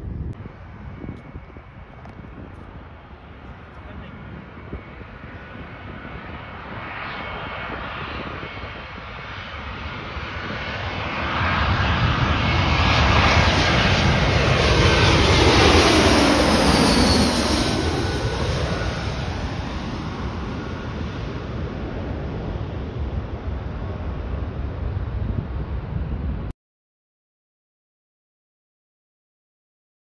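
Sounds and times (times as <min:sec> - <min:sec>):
jet airliner flying overhead: 0:00.0 - 0:26.5
jet engine whine sliding down: 0:00.0 - 0:26.5.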